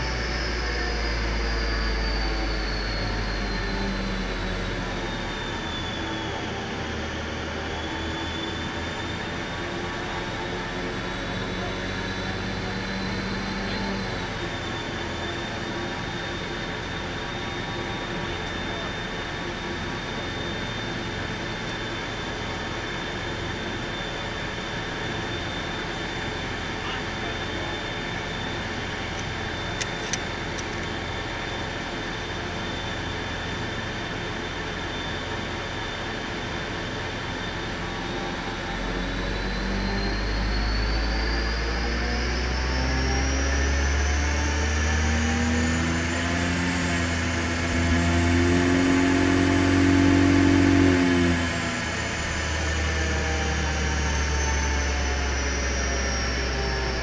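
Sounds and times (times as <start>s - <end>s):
car engine on dyno: 0.0s - 57.0s
rising whine: 0.0s - 57.0s.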